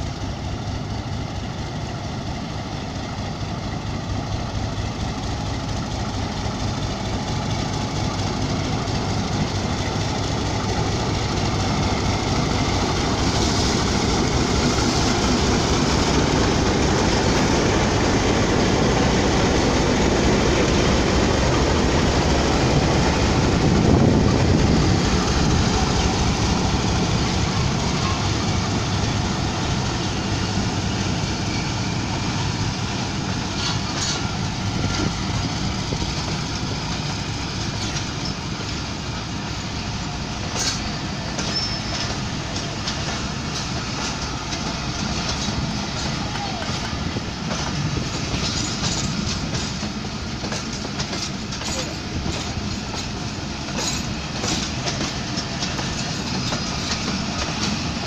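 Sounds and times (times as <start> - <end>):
diesel locomotive engine: 0.0 - 58.0
train coaches rolling past: 0.0 - 58.0.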